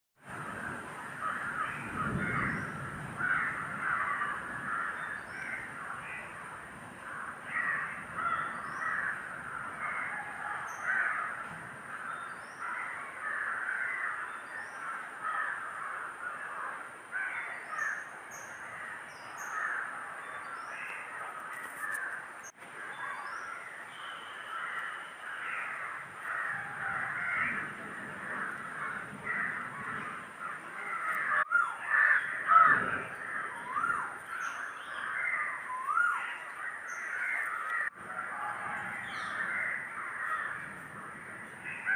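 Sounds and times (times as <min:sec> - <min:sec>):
crows cawing: 0:00.4 - 0:41.9
birds chirping: 0:00.6 - 0:41.9.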